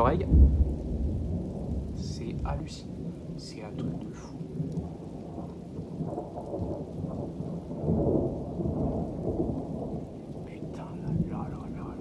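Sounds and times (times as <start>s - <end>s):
rolling thunder rumbling: 0.0s - 12.0s.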